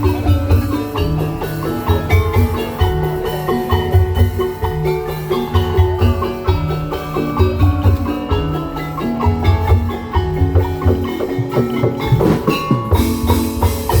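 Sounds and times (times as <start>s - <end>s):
repeating drum beat: 0.0s - 14.0s
tuned percussion melody: 0.0s - 14.0s.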